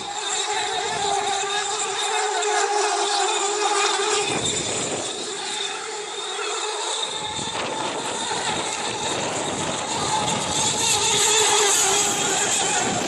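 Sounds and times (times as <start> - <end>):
high-pitched whine of boat motors: 0.0 - 13.0.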